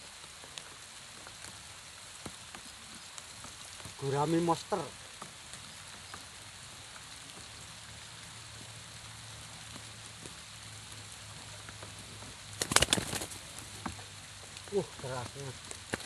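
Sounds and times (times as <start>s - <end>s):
light rain on pond and grass: 0.0s - 16.0s.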